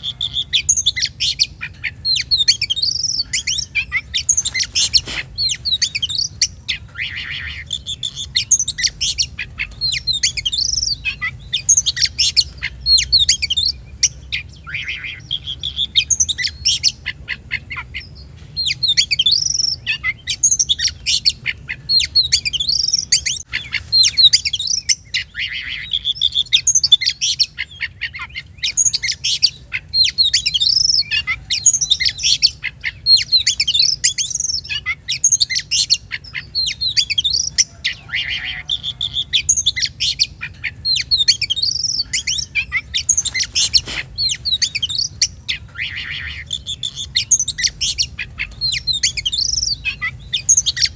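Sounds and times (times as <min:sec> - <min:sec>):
bird singing fast whistled song: 0:00.0 - 0:50.9.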